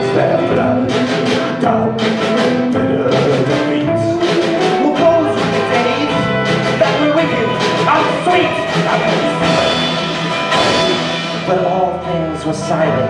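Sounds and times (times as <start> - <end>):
acoustic guitar: 0.0 - 13.0
held melody notes: 0.0 - 13.0
steady drum beat: 0.0 - 13.0.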